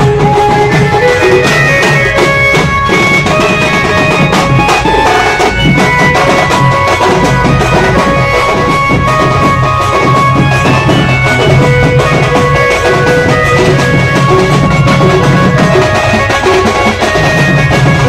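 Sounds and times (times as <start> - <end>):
reedy wind instrument melody: 0.0 - 18.0
steady drum beat: 0.0 - 18.0.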